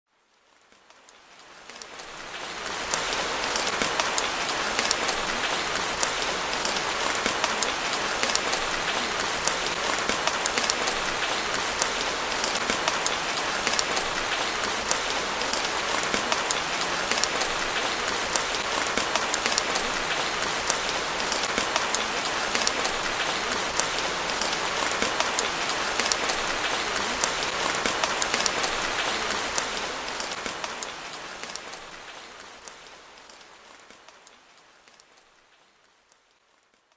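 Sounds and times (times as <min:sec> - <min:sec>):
steady rain: 0:00.1 - 0:36.9.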